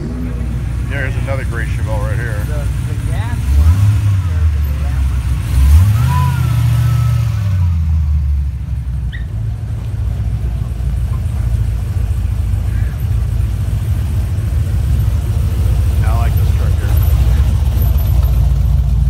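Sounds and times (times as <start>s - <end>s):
car engine rumbling: 0.0s - 19.0s
pickup engine rumble: 0.0s - 19.0s.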